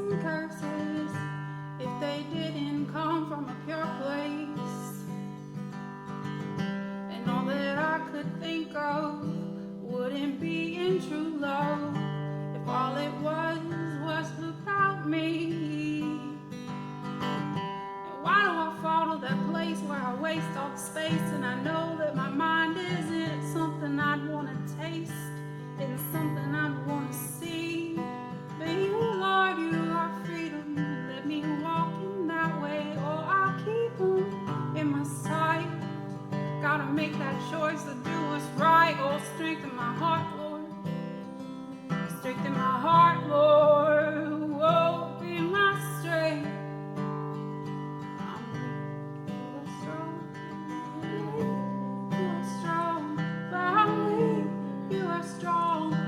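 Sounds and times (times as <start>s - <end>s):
acoustic guitar music: 0.0s - 56.0s.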